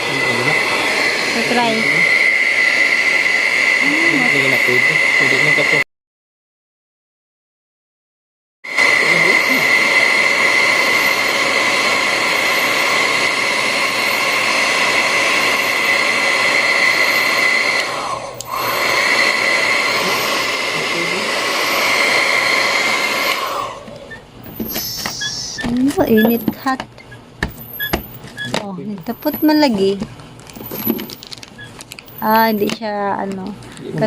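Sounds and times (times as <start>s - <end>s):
hot-air blower whining: 0.0s - 5.9s, 8.7s - 34.0s.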